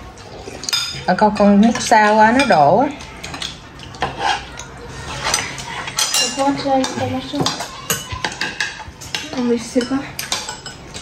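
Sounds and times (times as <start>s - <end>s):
spoons clinking on ceramic bowls: 0.6s - 4.6s, 5.2s - 11.0s.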